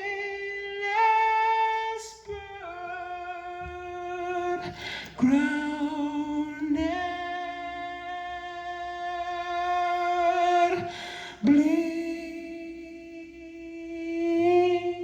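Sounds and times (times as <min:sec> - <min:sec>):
man singing live: 0:00.0 - 0:15.0.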